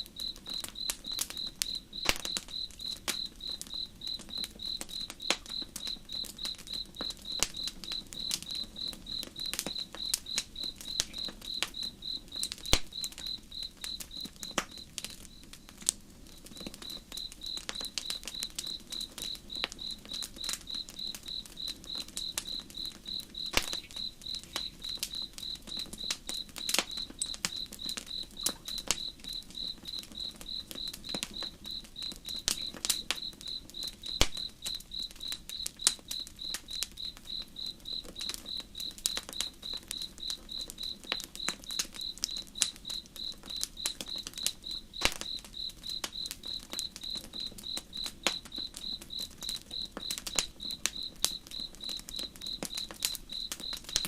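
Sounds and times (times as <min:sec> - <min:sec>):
campfire crackling: 0:00.0 - 0:54.0
crickets chirping: 0:00.0 - 0:54.0.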